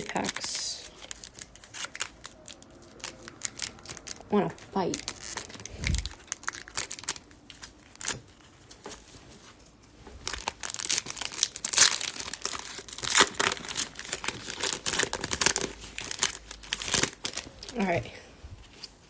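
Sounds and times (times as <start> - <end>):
wrapper tearing and crinkling: 0.0 - 8.5, 10.2 - 18.0.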